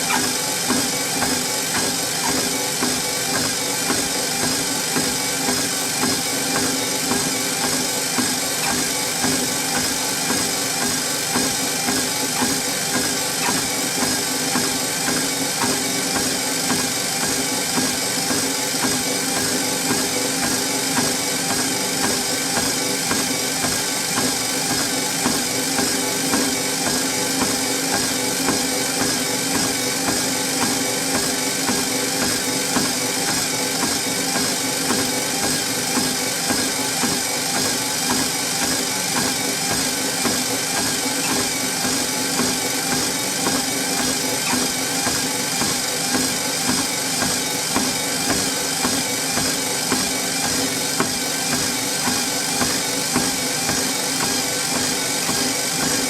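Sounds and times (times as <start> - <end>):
footfalls on treadmill deck: 0.0 - 56.0
treadmill motor hum and whine: 0.0 - 56.0.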